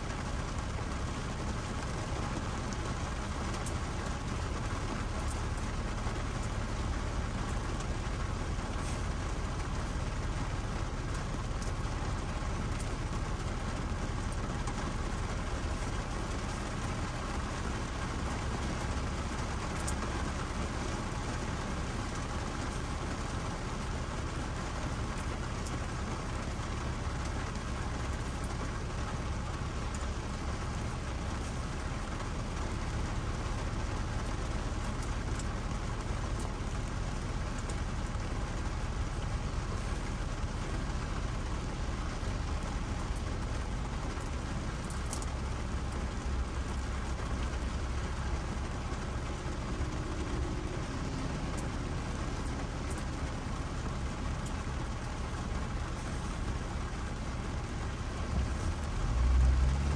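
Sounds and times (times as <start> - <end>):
low steady rumble: 0.0 - 59.9
rain on car windshield and roof: 0.0 - 59.9.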